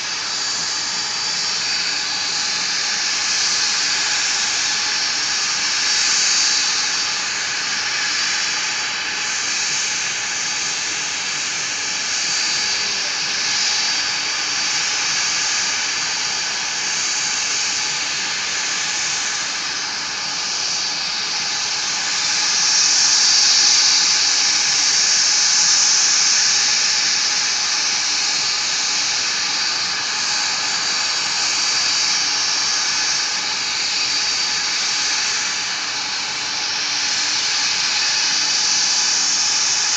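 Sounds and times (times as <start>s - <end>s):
high-pitched jet whine: 0.0s - 39.9s.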